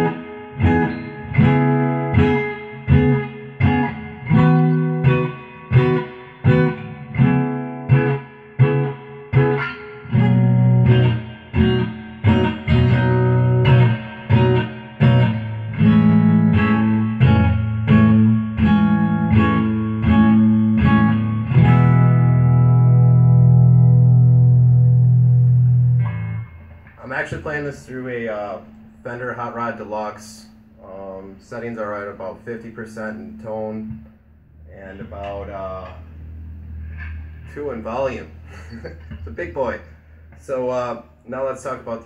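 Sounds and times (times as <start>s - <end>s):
electric guitar strumming chords: 0.0s - 42.0s.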